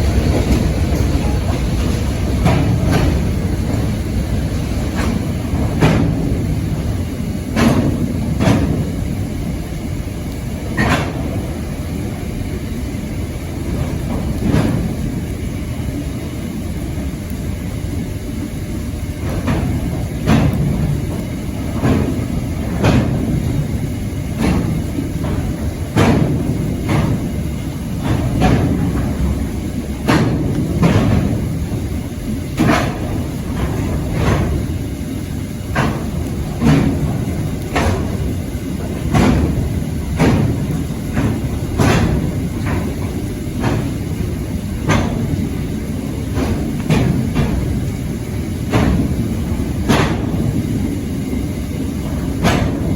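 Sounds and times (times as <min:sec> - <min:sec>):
freight train rumbling: 0:00.0 - 0:52.9.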